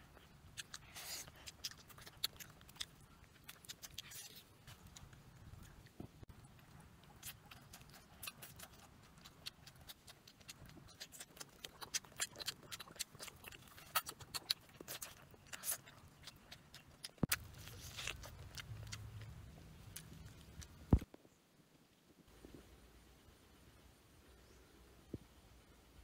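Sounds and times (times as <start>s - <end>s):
faint low hum: 0.0s - 26.0s
wet chewing and smacking: 0.1s - 21.1s.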